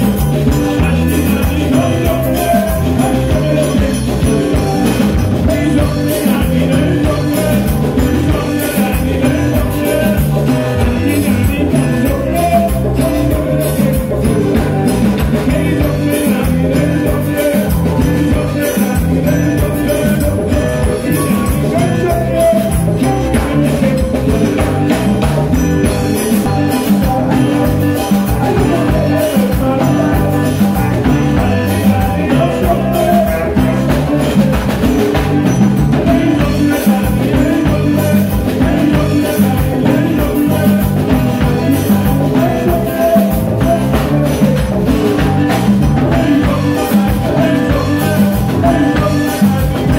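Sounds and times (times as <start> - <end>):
band playing upbeat tune: 0.0 - 49.9
hand drums: 0.0 - 49.9.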